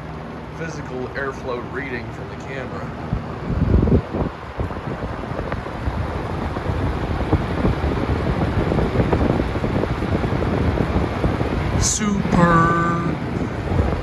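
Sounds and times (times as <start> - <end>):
fan wind noise: 0.0 - 14.0.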